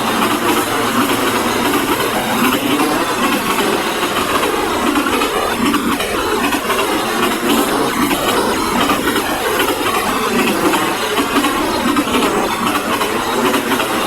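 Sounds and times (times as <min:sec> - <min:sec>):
train cars running on rails: 0:00.0 - 0:14.0.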